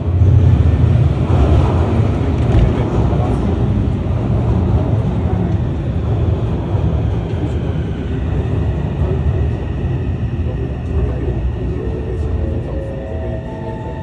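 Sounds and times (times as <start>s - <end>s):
train pulling into platform: 0.0s - 14.0s.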